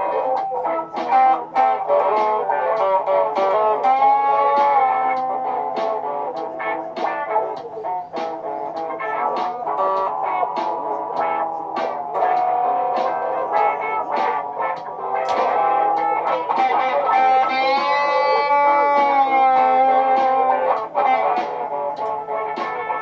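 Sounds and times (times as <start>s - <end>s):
looped guitar music: 0.0s - 23.0s.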